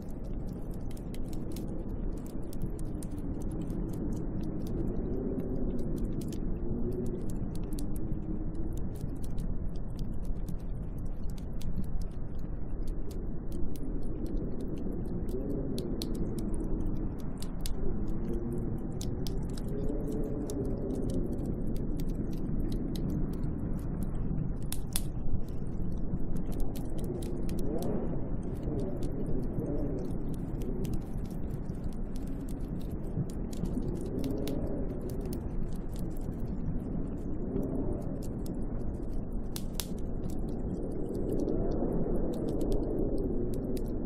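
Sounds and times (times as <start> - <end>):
small sharp ticks: 0.0 - 44.0
snowstorm wind howling: 0.0 - 44.0.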